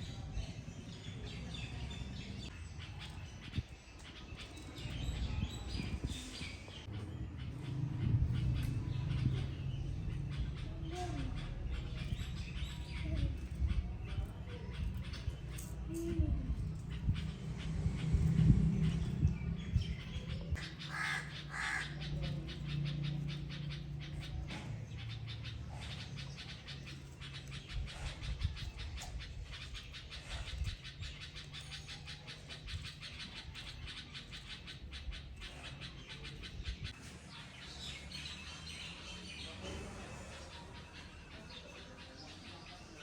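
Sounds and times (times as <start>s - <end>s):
birds calling: 0.0s - 43.0s
harsh bird calls: 0.0s - 43.0s.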